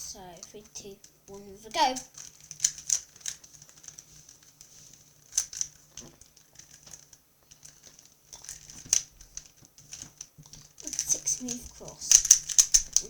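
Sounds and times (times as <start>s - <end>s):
puzzle cube clicking: 0.3s - 4.0s, 5.2s - 13.0s.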